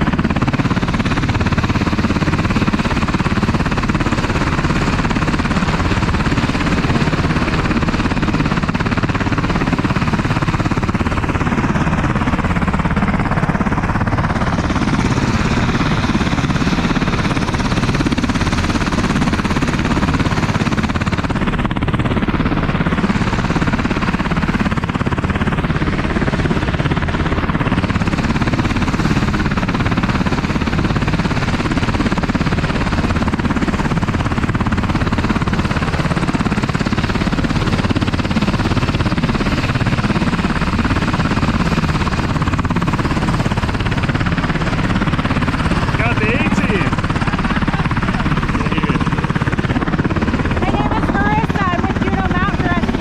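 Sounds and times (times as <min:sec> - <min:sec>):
helicopter rotor chop: 0:00.0 - 0:53.0.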